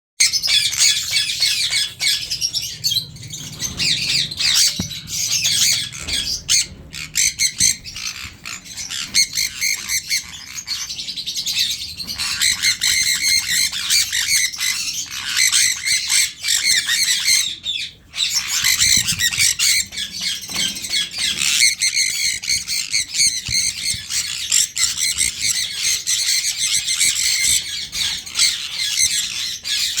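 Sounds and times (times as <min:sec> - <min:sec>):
parrot squawking and chattering: 0:00.2 - 0:30.0.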